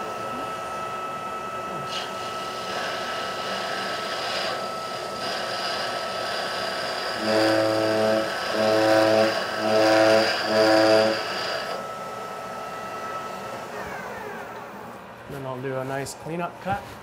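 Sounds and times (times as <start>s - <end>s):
metal lathe cutting: 1.1s - 14.8s.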